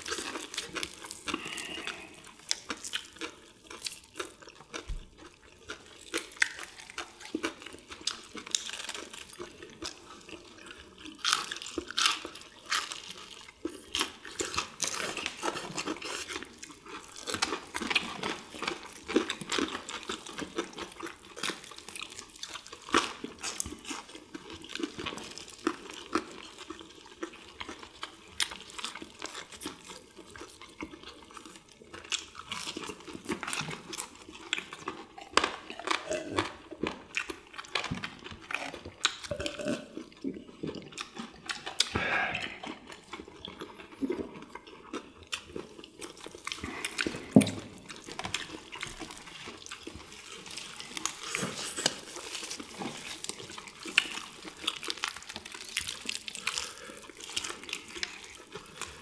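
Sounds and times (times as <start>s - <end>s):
crunching fried chicken: 0.0s - 59.0s
wet chewing: 0.0s - 59.0s.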